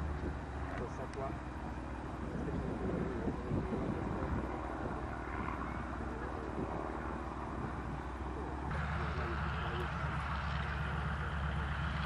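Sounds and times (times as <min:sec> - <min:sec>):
distant aircraft engine drone: 0:00.0 - 0:12.0
outdoor background noise: 0:00.0 - 0:12.0.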